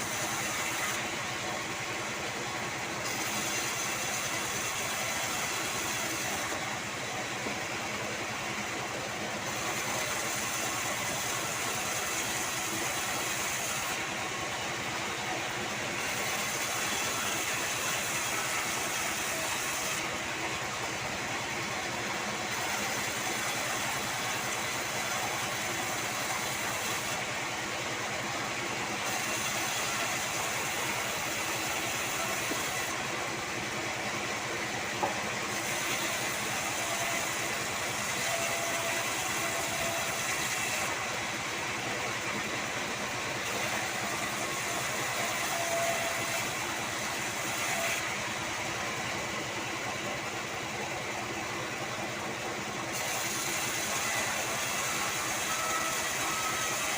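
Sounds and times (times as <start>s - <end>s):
band saw cutting timber: 0.0s - 27.5s, 28.1s - 33.2s, 35.0s - 50.4s, 52.8s - 56.9s.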